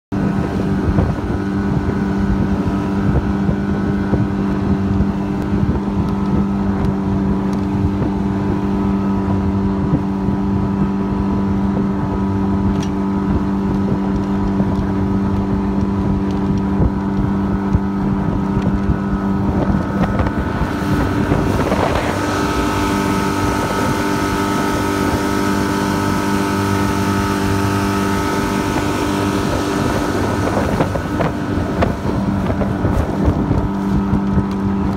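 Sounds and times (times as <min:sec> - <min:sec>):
outboard motor running: 0:00.1 - 0:34.9
rushing water: 0:00.1 - 0:34.9
wind buffeting microphone: 0:00.1 - 0:34.9.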